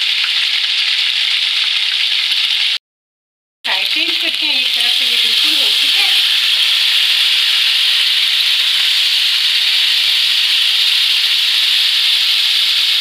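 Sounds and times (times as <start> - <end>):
chicken sizzling in oil: 0.0 - 2.8, 3.7 - 13.0.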